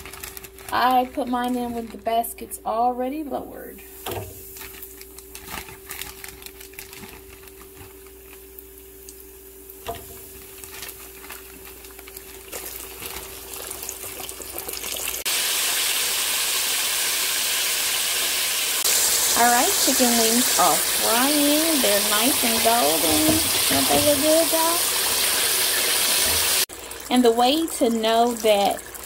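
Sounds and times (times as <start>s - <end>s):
oil crackling while deep-frying: 0.0s - 2.4s, 3.9s - 29.0s.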